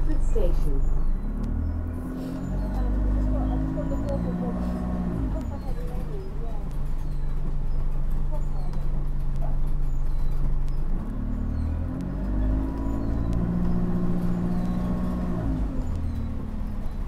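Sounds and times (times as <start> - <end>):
bus engine from inside: 0.0 - 17.0.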